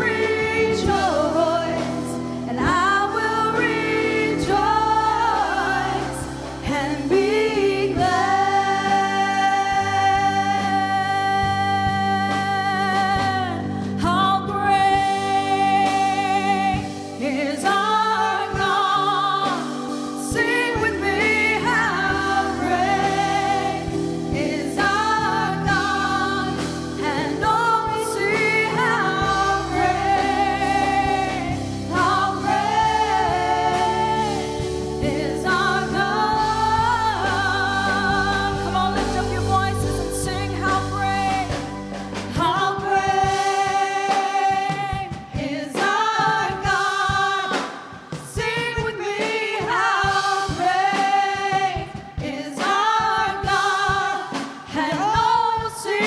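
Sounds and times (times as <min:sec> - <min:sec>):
instrumental accompaniment: 0:00.0 - 0:55.4
voices singing gospel song: 0:00.0 - 0:56.0.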